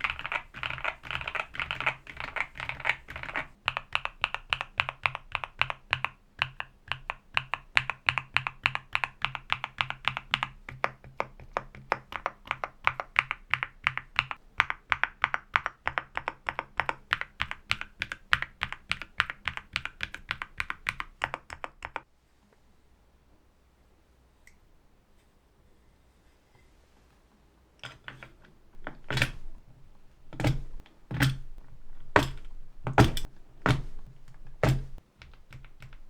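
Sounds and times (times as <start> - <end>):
fast mechanical keyboard typing: 0.0 - 22.0, 27.8 - 36.0.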